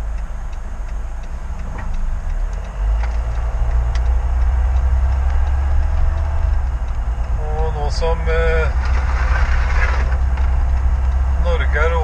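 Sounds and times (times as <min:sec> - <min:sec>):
car engine and road rumble: 0:00.0 - 0:12.0
turn signal ticking: 0:00.0 - 0:12.0.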